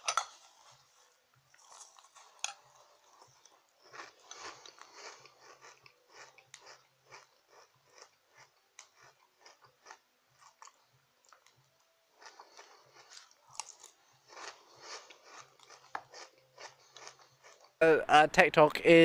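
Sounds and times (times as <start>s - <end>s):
chewing crunchy cereal: 0.4s - 17.8s.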